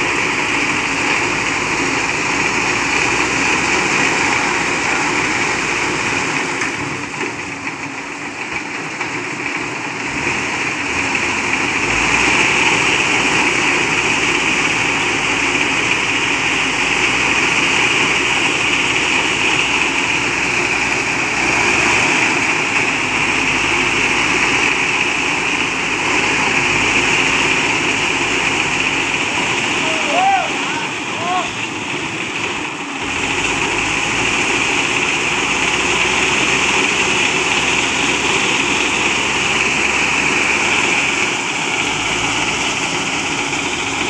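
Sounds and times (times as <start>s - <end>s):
diesel truck engines running: 0.0s - 44.0s.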